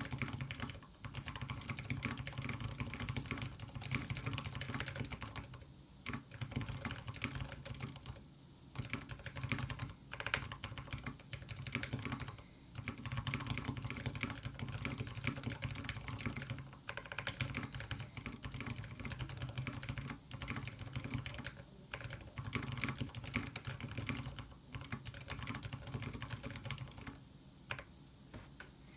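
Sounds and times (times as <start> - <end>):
typing on mechanical keyboard: 0.0 - 27.9.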